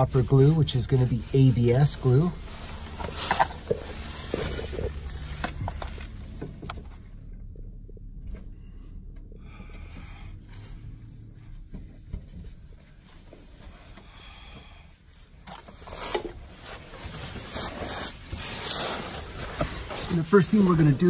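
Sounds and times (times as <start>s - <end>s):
pipe scraping and rustling: 0.0s - 7.2s, 9.8s - 21.0s.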